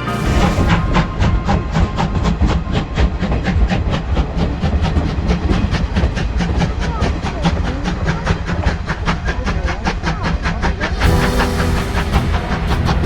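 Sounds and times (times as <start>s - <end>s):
steam locomotive chugging: 0.0s - 13.0s.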